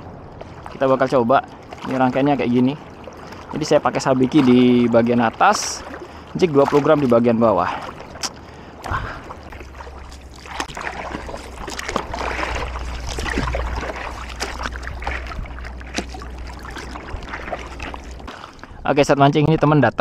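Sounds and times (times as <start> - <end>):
sea water lapping and splashing: 0.0 - 19.7
low steady rumble: 0.0 - 20.0.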